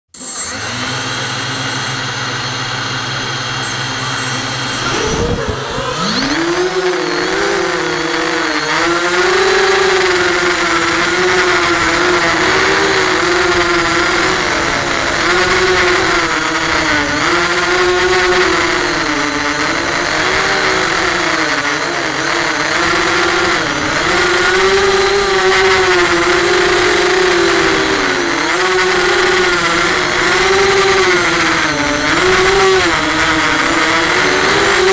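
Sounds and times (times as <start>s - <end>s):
quadcopter propellers buzzing: 0.1s - 34.9s.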